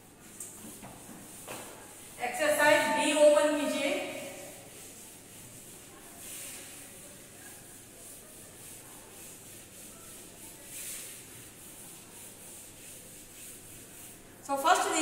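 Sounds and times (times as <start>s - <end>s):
cloth wiping a blackboard: 0.0s - 15.0s.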